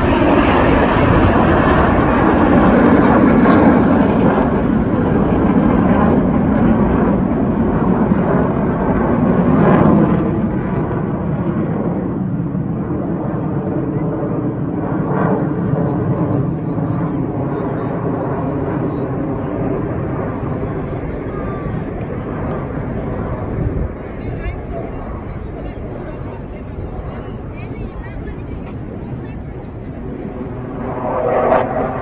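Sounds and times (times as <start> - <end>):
jet engines passing overhead: 0.0 - 32.0.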